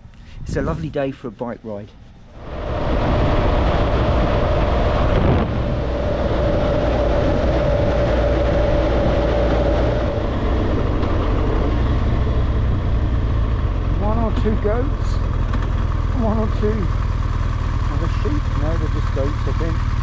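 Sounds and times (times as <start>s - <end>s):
wind rushing over microphone: 0.0s - 16.9s
motorcycle engine running: 2.2s - 20.0s.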